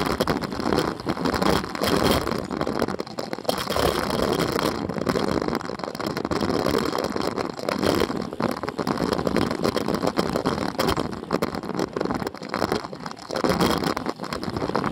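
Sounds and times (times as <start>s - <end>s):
bicycle tyre noise: 0.0s - 14.9s
rattles over rough asphalt: 0.0s - 14.9s
wind buffeting microphone: 0.0s - 14.9s.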